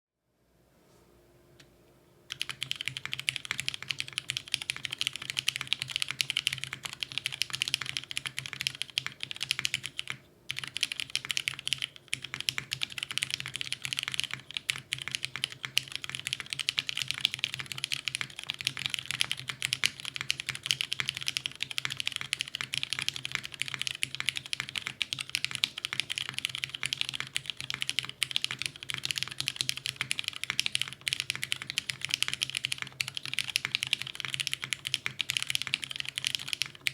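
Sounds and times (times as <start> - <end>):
mechanical keyboard typing: 2.3 - 36.9.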